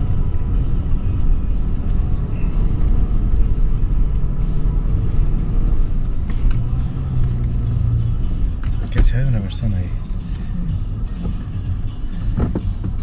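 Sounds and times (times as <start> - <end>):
suv engine rumbling: 0.0 - 13.0.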